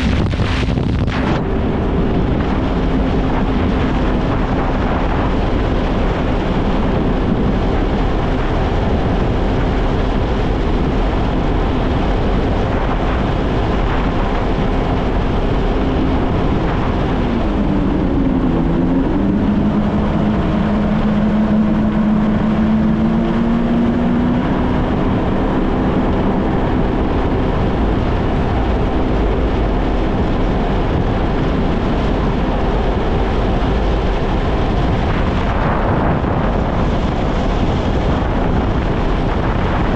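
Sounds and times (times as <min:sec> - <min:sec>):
jet ski engine running: 0:00.0 - 0:39.9
water and wind rush: 0:00.0 - 0:39.9.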